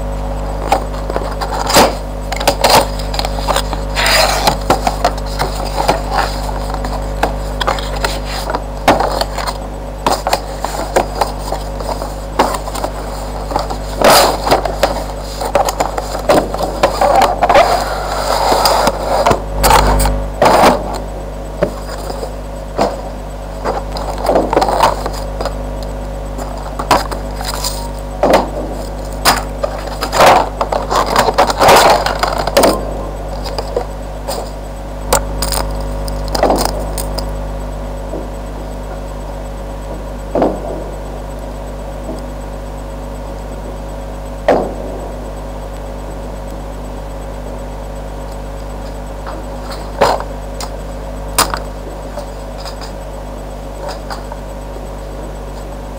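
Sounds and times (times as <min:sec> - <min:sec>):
low electrical hum: 0:00.0 - 0:55.9.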